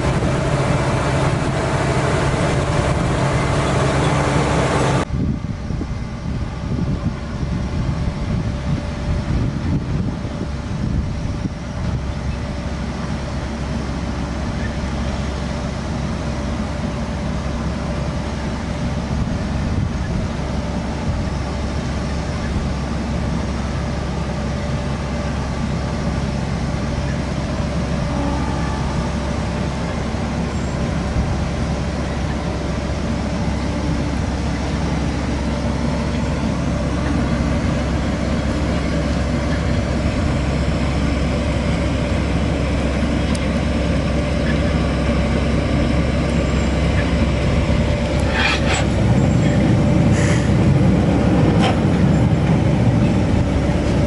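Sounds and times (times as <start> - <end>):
harvester engine and machinery: 0.0 - 54.0.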